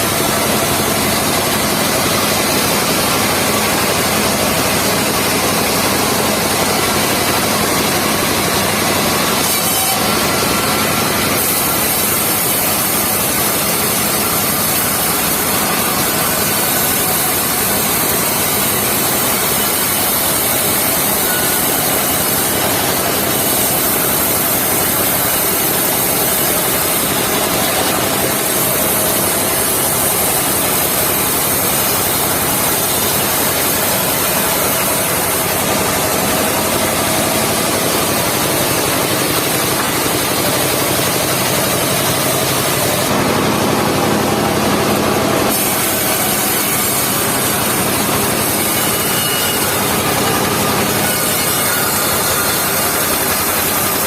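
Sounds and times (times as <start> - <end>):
saw blade cutting log: 0.0 - 54.0
sawmill engine running: 0.0 - 54.0.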